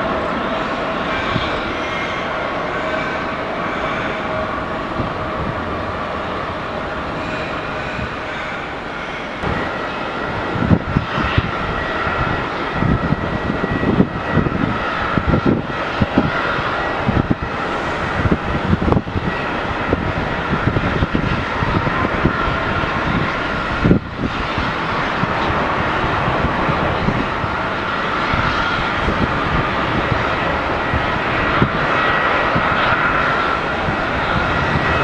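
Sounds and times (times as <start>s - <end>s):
jet noise with high whine: 0.0s - 35.0s.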